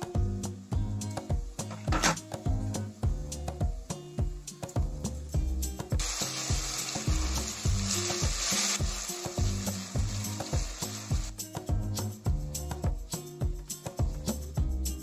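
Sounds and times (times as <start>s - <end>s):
onions sizzling in oil: 0.0s - 13.2s
background music with beat: 0.0s - 15.0s.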